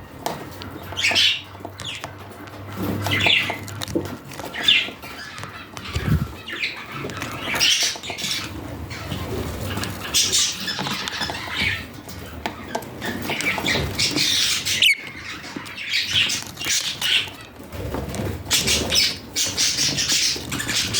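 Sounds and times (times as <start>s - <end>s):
light scratching and pattering: 0.2s - 20.9s
budgerigars chirping and squawking: 0.3s - 20.9s.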